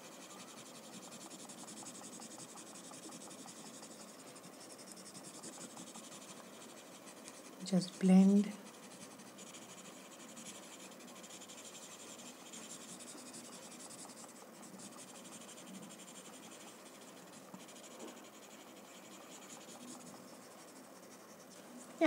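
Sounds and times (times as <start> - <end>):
soft scratchy rubbing on paper: 0.0 - 22.0.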